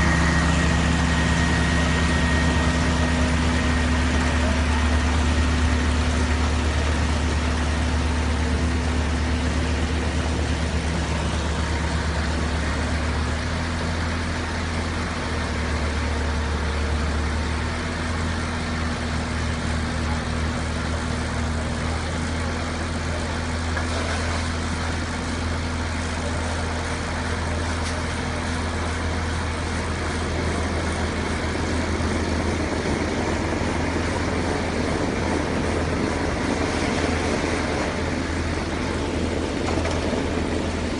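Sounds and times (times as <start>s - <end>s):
tractor engine drone: 0.0s - 40.9s.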